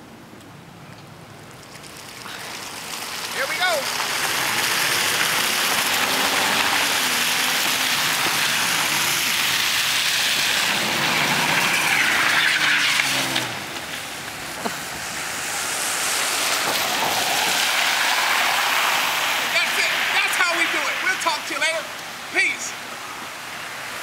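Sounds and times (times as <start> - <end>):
car engine revving: 2.3 - 22.1.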